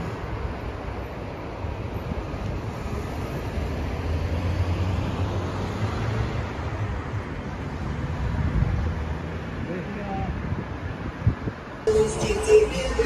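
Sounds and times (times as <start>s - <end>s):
road and traffic rumble: 0.0s - 13.0s.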